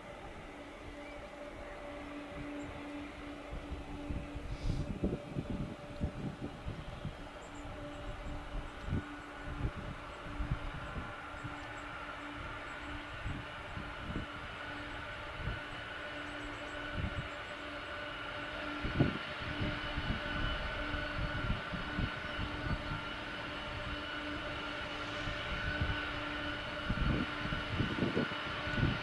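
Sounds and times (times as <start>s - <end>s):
jet engines whining: 0.0s - 29.0s
wind rumbling on microphone: 0.0s - 29.0s.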